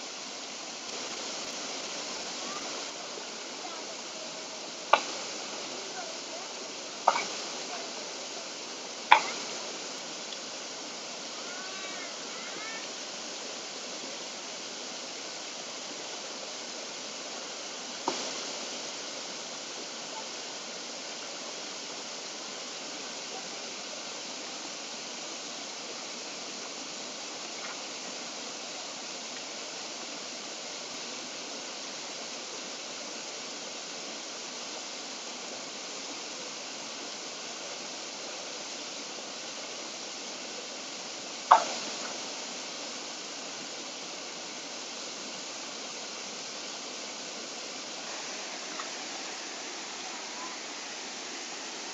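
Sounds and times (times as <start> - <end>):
stream flowing over rocks: 0.0 - 51.9.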